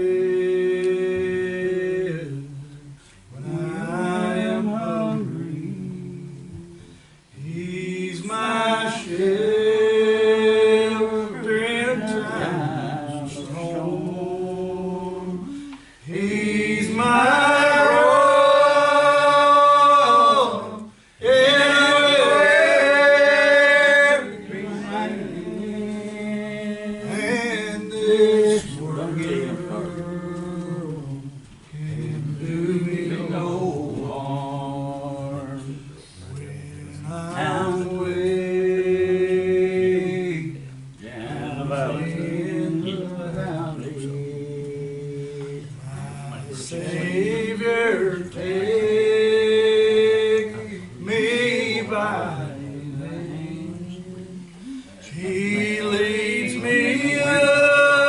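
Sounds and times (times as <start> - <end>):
man singing a slow hymn: 0.0 - 58.0.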